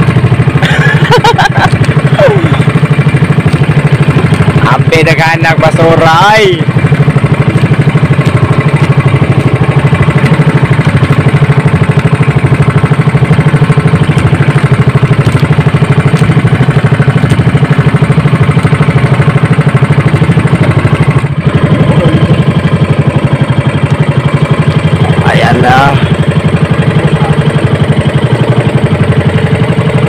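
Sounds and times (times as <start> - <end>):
boat engine chugging: 0.0 - 30.0.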